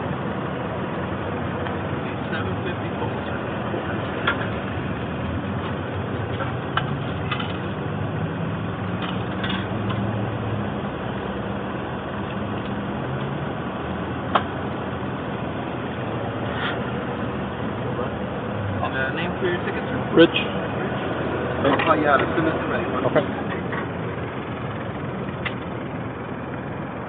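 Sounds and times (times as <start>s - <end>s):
engine hum: 0.0s - 27.0s.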